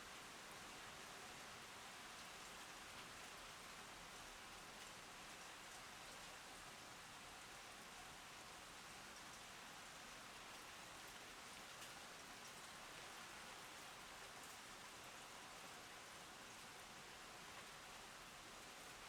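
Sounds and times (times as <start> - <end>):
faint rain hiss: 0.0 - 19.0.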